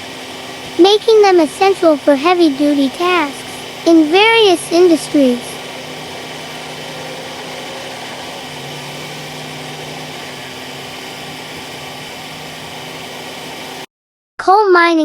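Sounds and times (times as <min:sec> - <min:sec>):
bulldozer engine running: 0:00.0 - 0:13.9.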